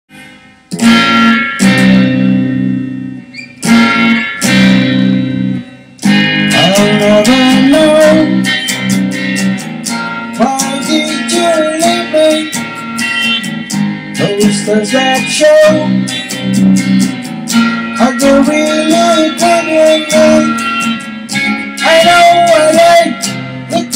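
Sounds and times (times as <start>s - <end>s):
electric guitar chords: 0.1s - 23.9s
lead guitar bending notes: 0.1s - 23.9s.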